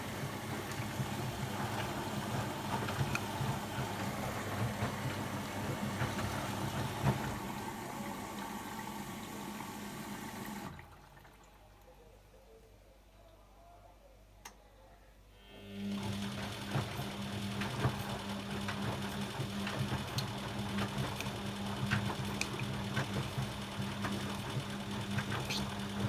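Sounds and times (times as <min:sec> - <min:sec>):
washing machine water running: 0:00.0 - 0:11.7, 0:15.8 - 0:26.0.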